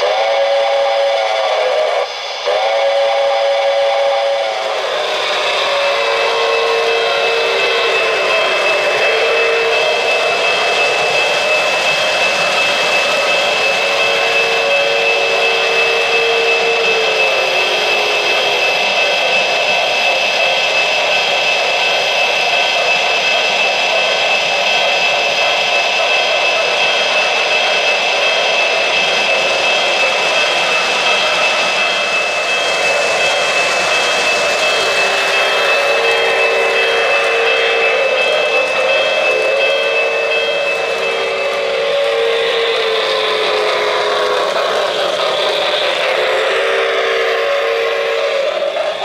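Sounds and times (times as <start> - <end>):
high whine: 0.0 - 49.0
model train motors whirring: 0.0 - 49.0.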